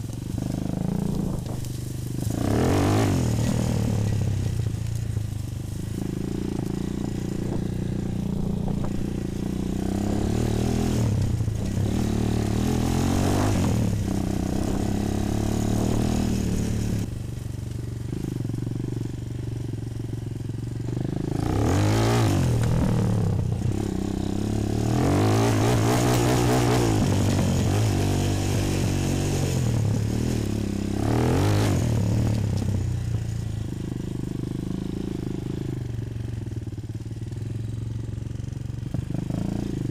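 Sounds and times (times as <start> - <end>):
quad engine revving: 0.0 - 5.0, 5.8 - 17.2, 20.8 - 36.0, 38.8 - 39.9.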